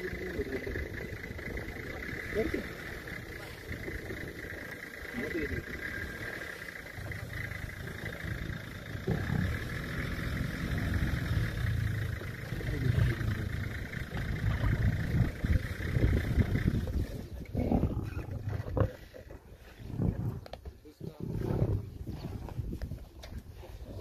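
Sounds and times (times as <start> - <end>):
lions growling: 0.0 - 24.0.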